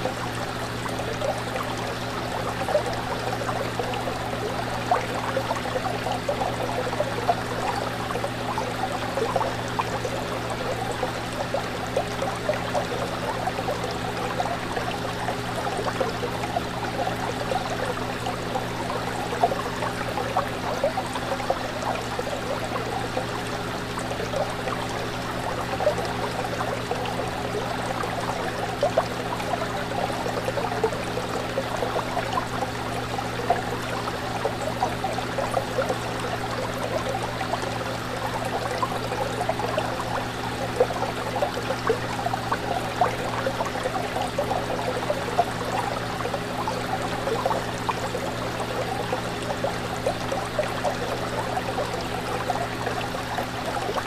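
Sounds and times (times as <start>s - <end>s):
fish tank water bubbling: 0.0s - 54.0s.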